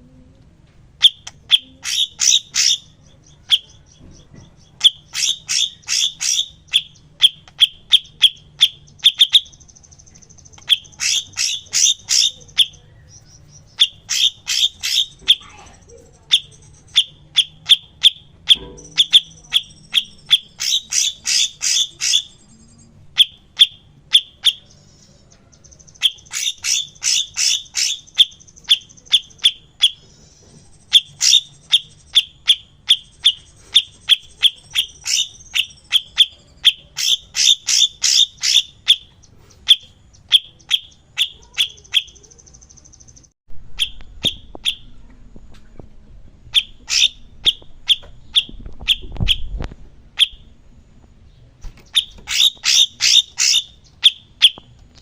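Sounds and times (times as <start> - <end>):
songbird chip notes: 0.0 - 45.8, 46.4 - 55.0
buzzy bird trills: 1.0 - 45.1, 46.5 - 50.6, 51.6 - 54.7.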